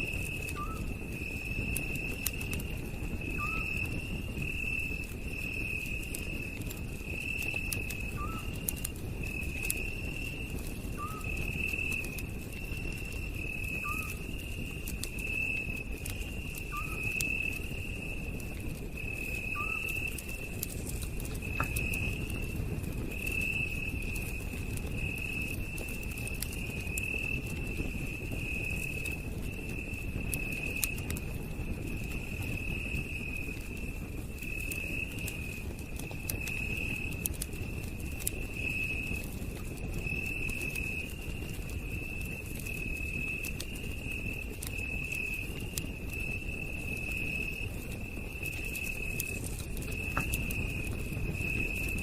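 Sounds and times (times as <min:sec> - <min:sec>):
campfire crackling: 0:00.0 - 0:52.0
night insects trilling: 0:00.0 - 0:52.0.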